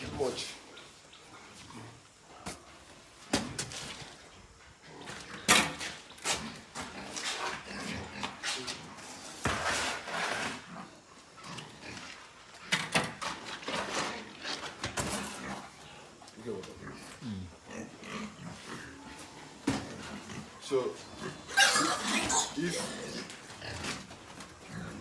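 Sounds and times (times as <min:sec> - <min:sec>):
pigs grunting: 0:00.0 - 0:25.0.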